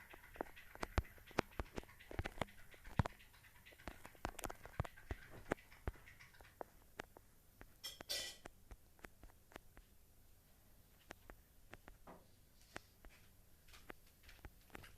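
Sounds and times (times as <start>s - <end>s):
small clicks and taps: 0.0s - 10.0s, 10.9s - 14.9s.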